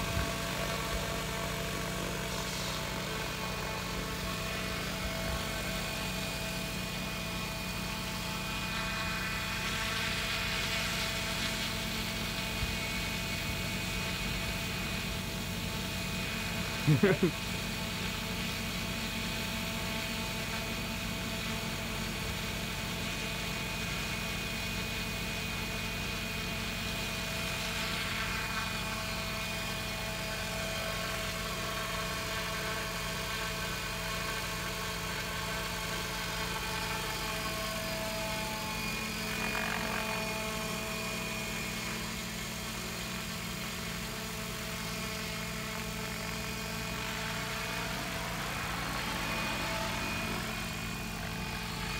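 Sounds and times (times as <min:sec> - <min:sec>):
model helicopter rotor whine: 0:00.0 - 0:51.9.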